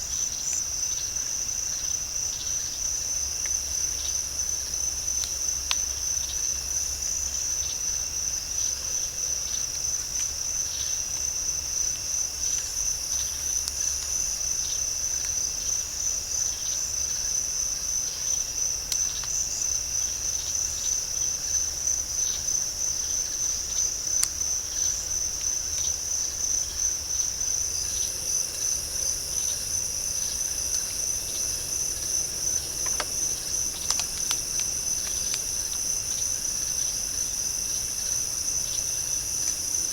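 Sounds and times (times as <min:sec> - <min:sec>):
higher-pitched insect chorus: 0:00.0 - 0:39.9
night insects trilling: 0:00.0 - 0:39.9.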